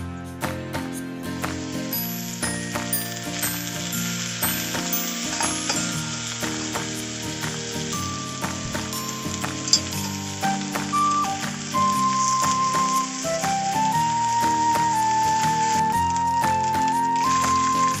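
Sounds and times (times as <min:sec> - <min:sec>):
background music: 0:00.0 - 0:18.0
food sizzling in a pan: 0:00.7 - 0:18.0.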